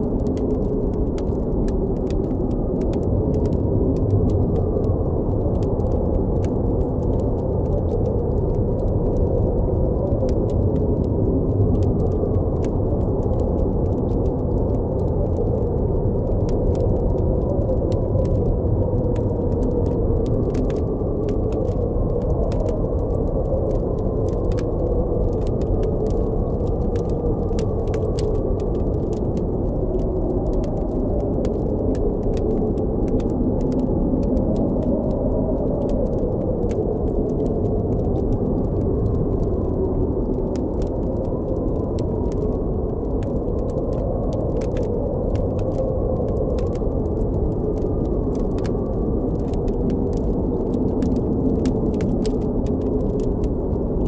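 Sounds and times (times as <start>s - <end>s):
blizzard wind howling: 0.0s - 54.0s
campfire crackling: 0.0s - 54.0s.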